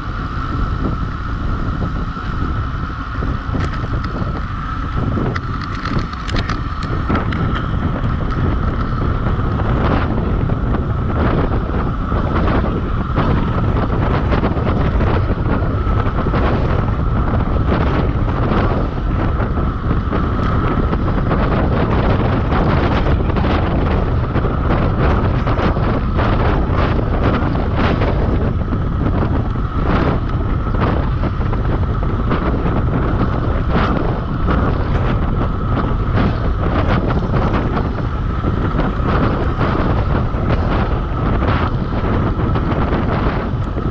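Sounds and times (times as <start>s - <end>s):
constant high-pitched tone: 0.0s - 43.9s
wind rushing over microphone: 0.0s - 43.9s.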